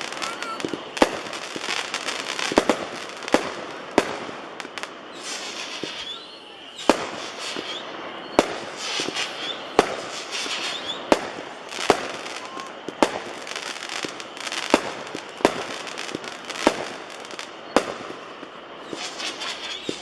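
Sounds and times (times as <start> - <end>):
firework cake bangs: 0.0 - 4.4, 5.2 - 20.0
constant noisy haze: 0.0 - 20.0.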